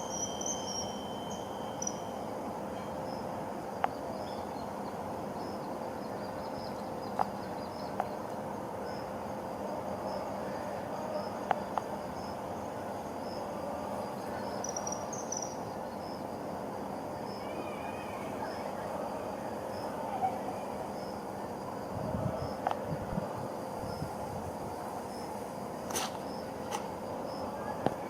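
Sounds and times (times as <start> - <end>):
insects chirping: 0.0 - 28.0
steady outdoor hum: 0.0 - 28.0.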